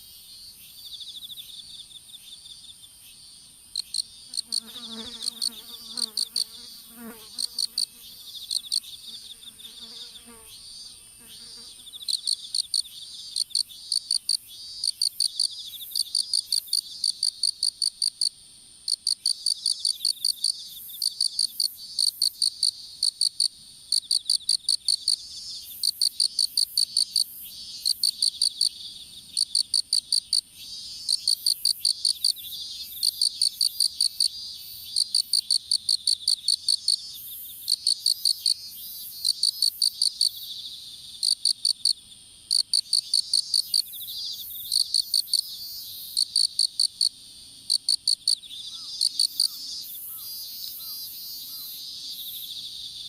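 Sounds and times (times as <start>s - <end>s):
insect caller rapid high pulses: 0.0s - 9.0s, 11.6s - 18.3s, 18.9s - 53.0s
insect chorus: 0.0s - 53.0s.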